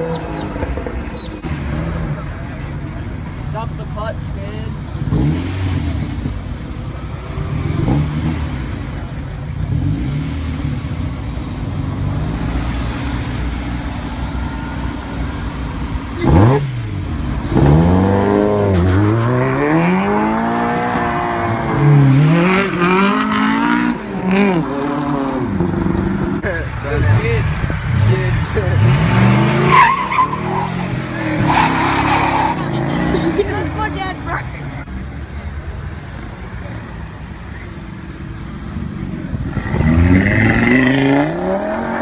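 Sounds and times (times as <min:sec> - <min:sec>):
car engine revving: 0:00.0 - 0:35.2, 0:37.9 - 0:42.0.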